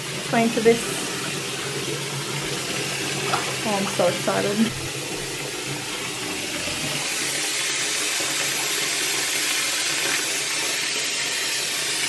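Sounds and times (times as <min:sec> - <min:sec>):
water running into bathtub: 0:00.0 - 0:12.0.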